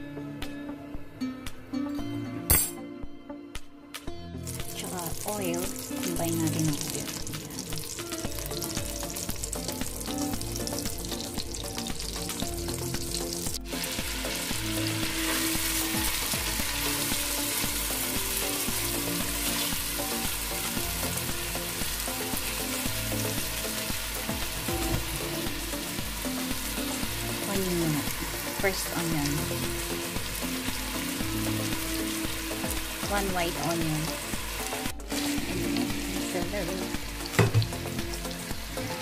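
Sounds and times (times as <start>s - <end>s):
butter and oil sizzling: 4.4s - 39.0s
onion frying: 4.4s - 39.0s.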